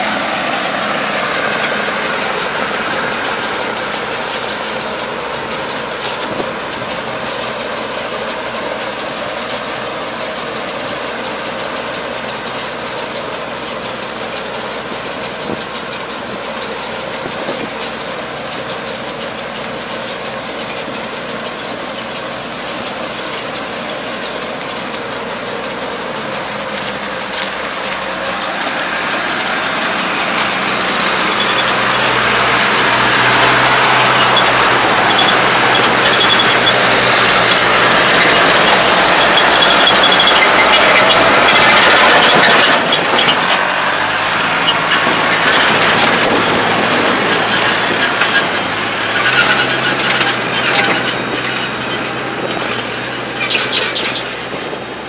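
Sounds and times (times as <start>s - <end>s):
baler rattling clatter: 0.0s - 55.0s
tractor diesel engine running: 0.0s - 55.0s.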